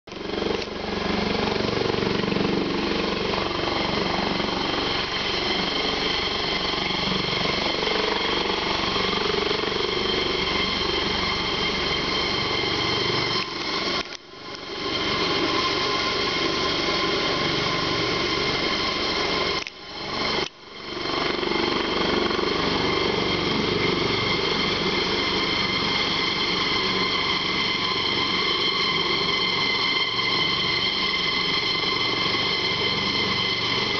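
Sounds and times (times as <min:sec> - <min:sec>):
helicopter rotor chopping: 0:00.1 - 0:33.9
helicopter turbine whine: 0:00.1 - 0:33.9.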